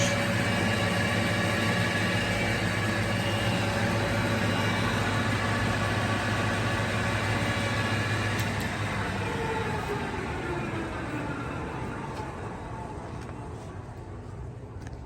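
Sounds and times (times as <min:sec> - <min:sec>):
lathe humming with gear tones: 0:00.0 - 0:14.3.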